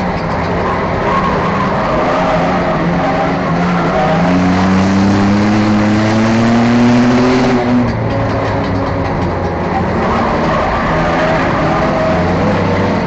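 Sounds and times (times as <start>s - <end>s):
race car engine accelerating: 0.0s - 13.0s
road and wind noise: 0.0s - 13.0s.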